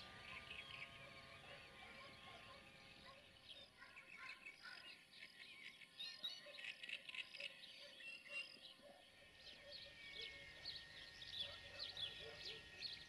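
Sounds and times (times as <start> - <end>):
birds chirping and twittering: 0.0 - 13.0.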